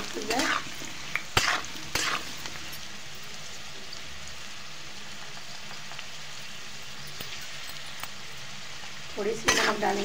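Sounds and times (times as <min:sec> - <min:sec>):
potatoes sizzling in hot oil: 0:00.0 - 0:10.0.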